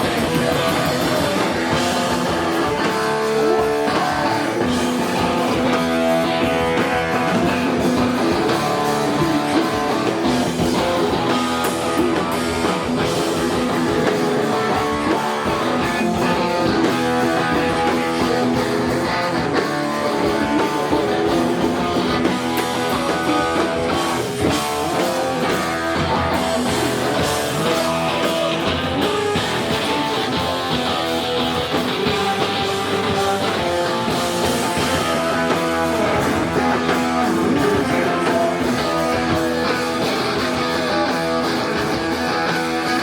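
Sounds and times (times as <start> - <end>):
rock band playing live: 0.0 - 43.0
strummed guitars: 0.0 - 43.0.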